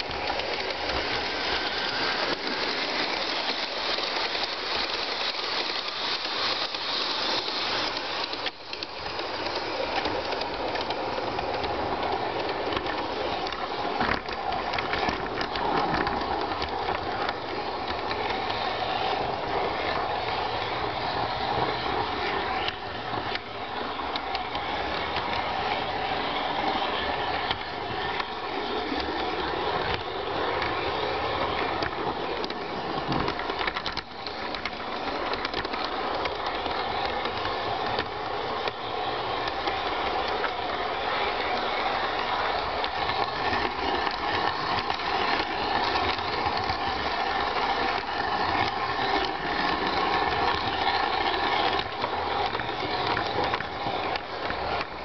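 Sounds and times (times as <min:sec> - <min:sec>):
model train motor whirring: 0:00.0 - 0:55.0
wheels clicking over rail joints: 0:00.0 - 0:55.0.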